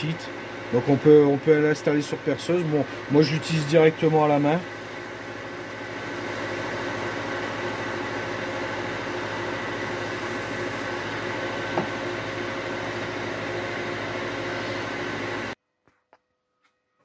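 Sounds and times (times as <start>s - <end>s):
wood lathe whining: 0.3s - 15.6s.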